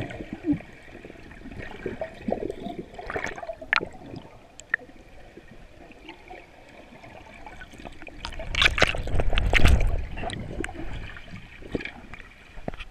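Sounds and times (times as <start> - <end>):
deep underwater rumble: 0.0 - 12.8
underwater sloshing and bubbling: 0.0 - 12.9.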